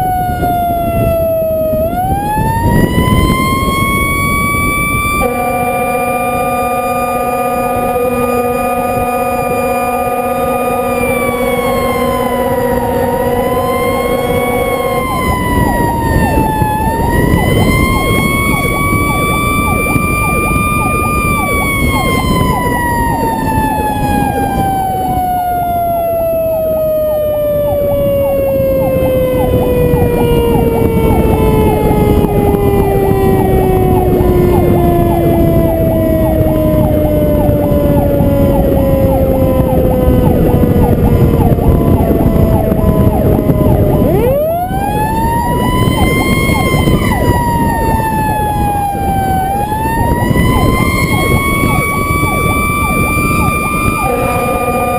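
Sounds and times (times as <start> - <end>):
fast repeating siren tone: 0.0 - 54.9
fire truck siren wailing: 0.0 - 54.9
truck engine and road noise: 0.0 - 54.9.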